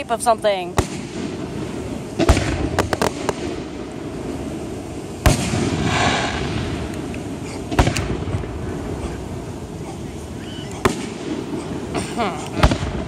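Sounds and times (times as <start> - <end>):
fireworks bangs: 0.0 - 13.0
fizzing hiss: 0.1 - 13.0.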